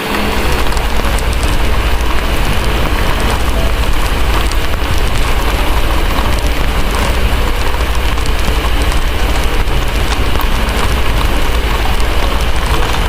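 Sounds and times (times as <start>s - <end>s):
constant low rumble: 0.0s - 13.0s
heavy rain falling: 0.0s - 13.0s
wood fire crackling: 0.0s - 13.0s.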